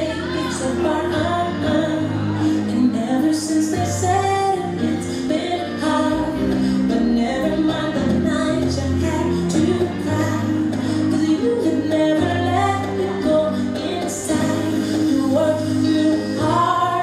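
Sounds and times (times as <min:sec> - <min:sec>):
pop song singing: 0:00.0 - 0:17.0.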